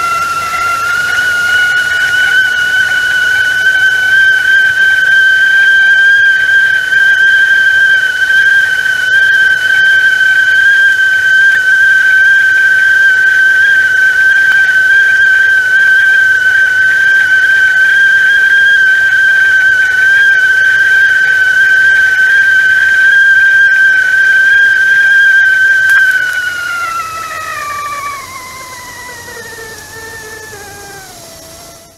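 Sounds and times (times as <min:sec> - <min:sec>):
kettle whistling: 0:00.0 - 0:31.9.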